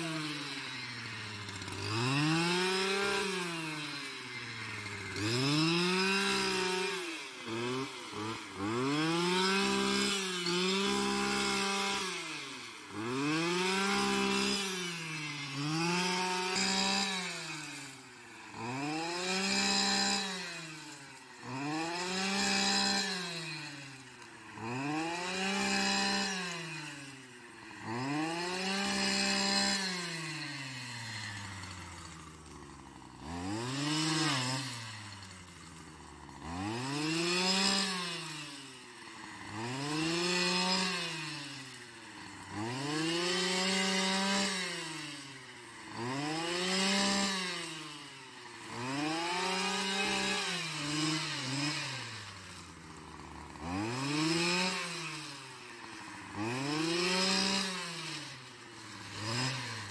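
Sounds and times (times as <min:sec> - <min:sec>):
brushcutter engine revving: 0:00.0 - 0:59.9.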